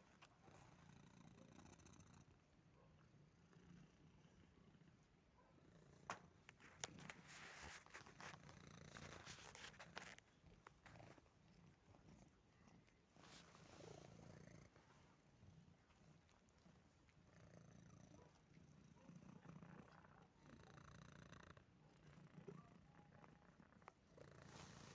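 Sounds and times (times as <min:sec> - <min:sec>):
cat purring: 0:00.3 - 0:24.9.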